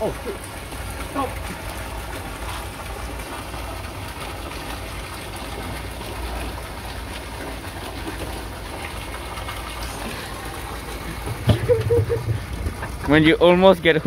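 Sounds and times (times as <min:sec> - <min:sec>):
constant low hum: 0:00.0 - 0:14.0
splashing water rushing: 0:00.0 - 0:14.0.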